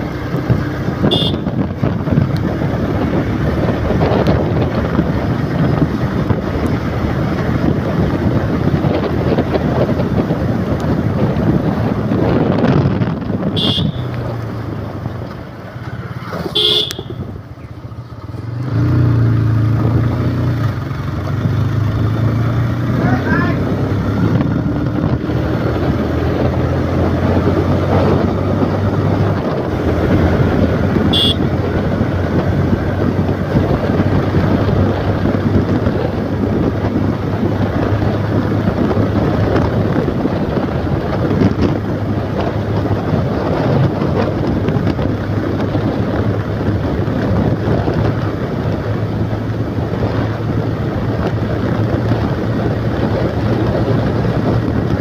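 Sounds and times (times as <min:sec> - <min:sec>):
motorcycle engine humming: 0:00.0 - 0:55.0
wind buffeting microphone: 0:00.0 - 0:55.0.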